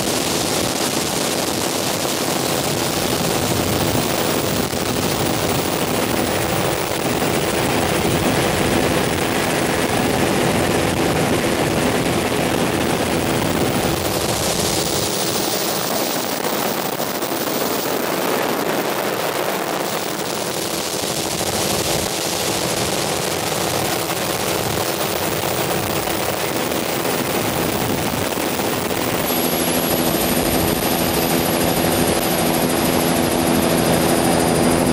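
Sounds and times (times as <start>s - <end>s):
helicopter engine and rotor noise: 0.0s - 34.9s.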